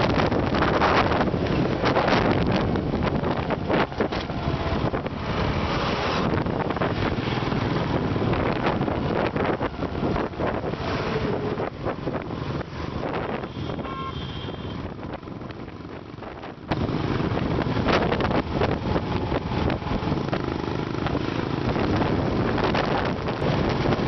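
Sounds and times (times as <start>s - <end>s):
wind buffeting microphone: 0.0s - 14.0s, 14.7s - 24.0s
vehicles rushing past: 0.0s - 24.0s
motorcycle engine: 0.1s - 24.0s.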